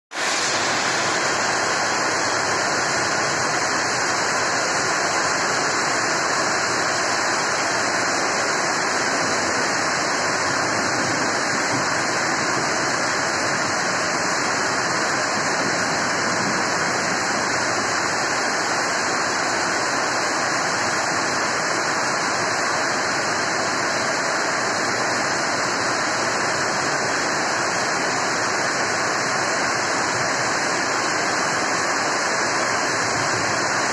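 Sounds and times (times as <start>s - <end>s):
heavy rain on metal roof: 0.1s - 33.9s
rain splashing on asphalt: 0.1s - 33.9s.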